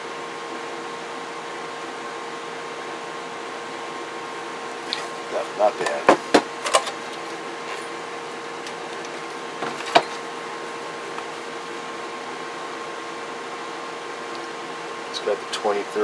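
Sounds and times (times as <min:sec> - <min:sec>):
workshop hum and hiss: 0:00.0 - 0:16.0.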